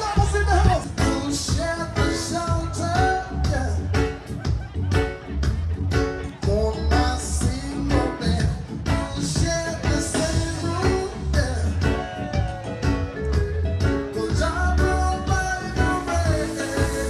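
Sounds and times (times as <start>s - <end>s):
reggae music with singing: 0.0s - 17.0s.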